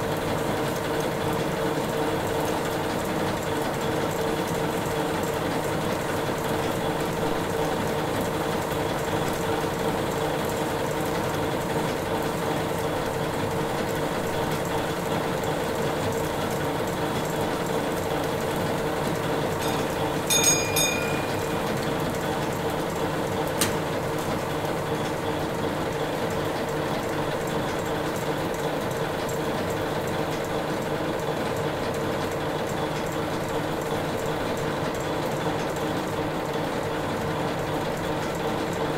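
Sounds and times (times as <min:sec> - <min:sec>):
steam engine clatter: 0:06.2 - 0:38.9.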